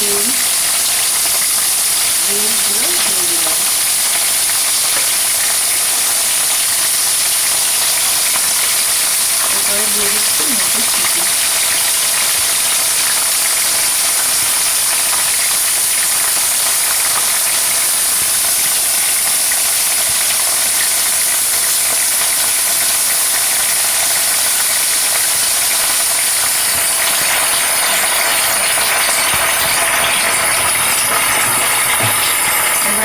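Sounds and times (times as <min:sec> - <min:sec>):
vegetables sizzling in hot oil: 0:00.0 - 0:33.0.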